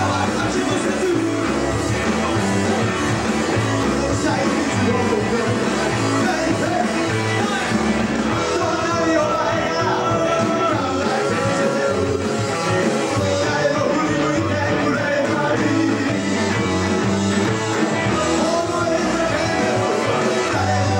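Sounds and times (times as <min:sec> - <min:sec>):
bass guitar: 0:00.0 - 0:20.9
drums: 0:00.0 - 0:20.9
electric guitar: 0:00.0 - 0:20.9
man singing rock song: 0:00.0 - 0:20.9.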